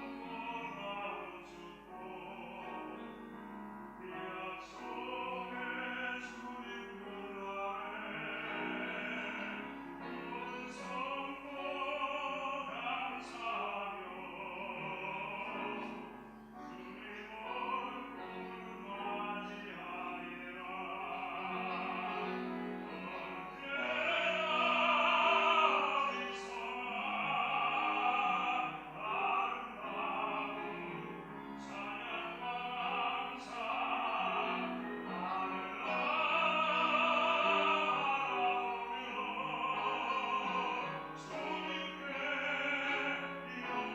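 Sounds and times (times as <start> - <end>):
man singing operatically: 0.0 - 3.3, 3.9 - 43.9.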